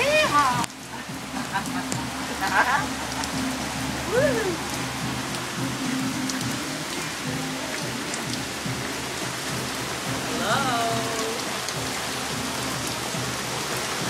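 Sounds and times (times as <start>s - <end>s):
rain falling on water: 0.0s - 14.0s.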